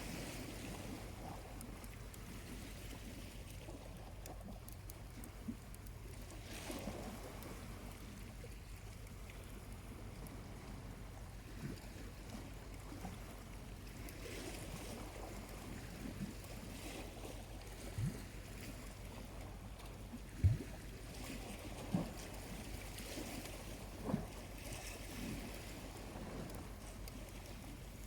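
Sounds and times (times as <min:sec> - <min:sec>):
sea waves lapping at shore: 0:00.0 - 0:28.0.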